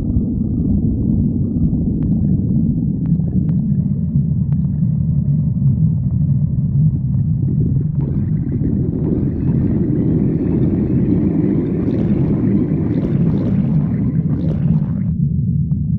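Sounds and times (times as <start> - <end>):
stomach growling: 0.0 - 15.2.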